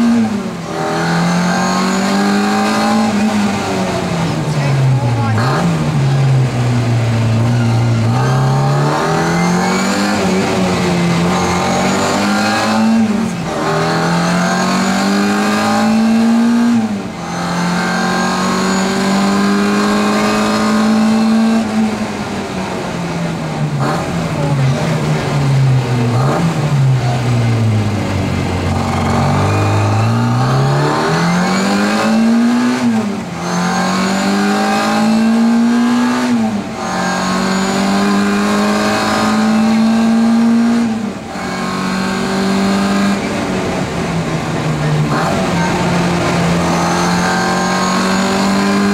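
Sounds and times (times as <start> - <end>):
car engine revving through gears: 0.0 - 48.9.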